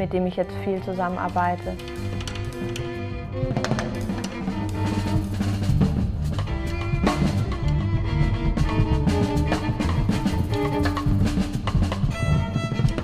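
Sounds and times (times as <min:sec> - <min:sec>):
bowed strings: 0:00.0 - 0:13.0
double bass: 0:00.0 - 0:13.0
drum kit playing: 0:00.9 - 0:13.0.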